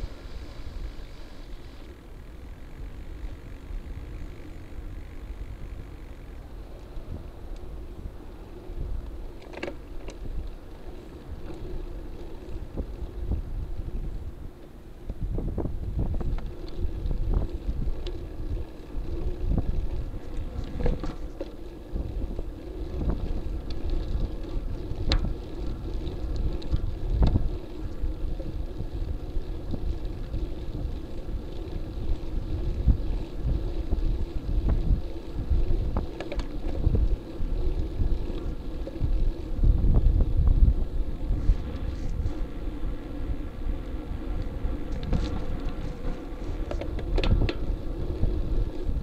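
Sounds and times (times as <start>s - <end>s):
tyres rumbling on pavement: 0.0s - 49.0s
wind buffeting microphone: 0.0s - 49.0s.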